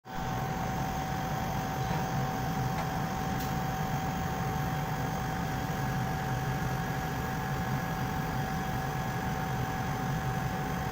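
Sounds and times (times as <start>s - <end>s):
laser cutter humming and whining: 0.1s - 10.9s.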